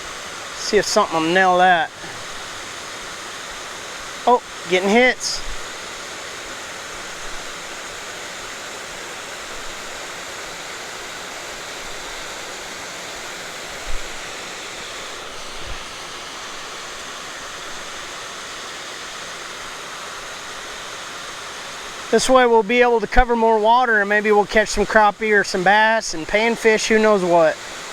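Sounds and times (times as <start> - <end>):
water rushing over spillway: 0.0 - 27.9.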